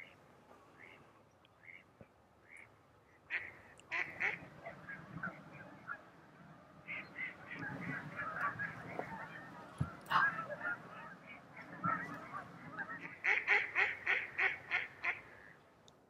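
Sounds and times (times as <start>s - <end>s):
swans and geese calling: 0.0s - 15.7s.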